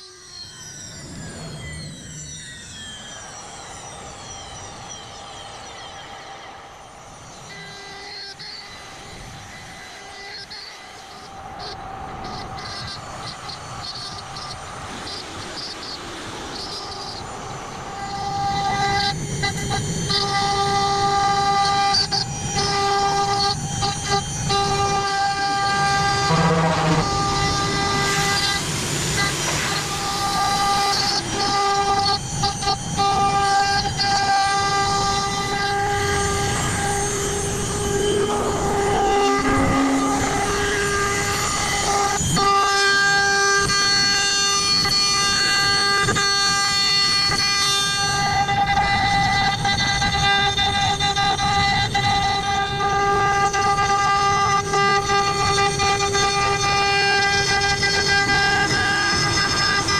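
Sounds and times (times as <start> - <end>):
router spindle whine: 0.0 - 59.9
cutting noise carving wood: 7.5 - 59.9.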